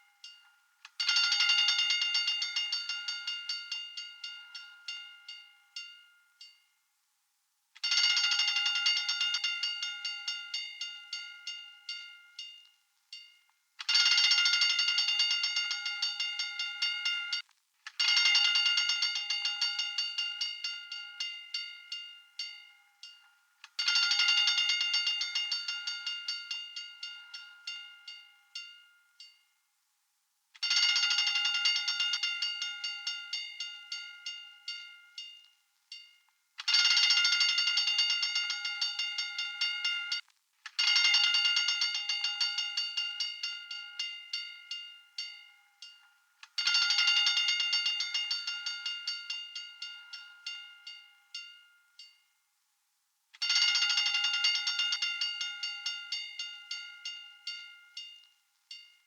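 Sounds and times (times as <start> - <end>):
fire alarm bell ringing: 0.0 - 6.5, 7.8 - 17.4, 18.0 - 29.4, 30.6 - 40.2, 40.8 - 52.2, 53.4 - 59.0.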